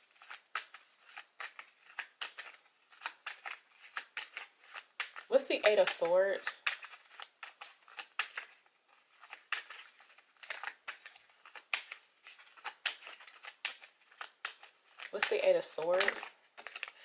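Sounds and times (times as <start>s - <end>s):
cards being shuffled: 0.0s - 17.0s.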